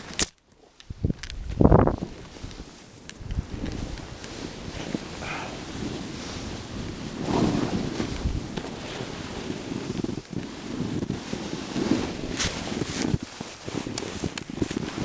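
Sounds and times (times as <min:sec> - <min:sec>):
wind rumbling on microphone: 0:00.8 - 0:15.0
edges scraping over snow: 0:01.9 - 0:15.0.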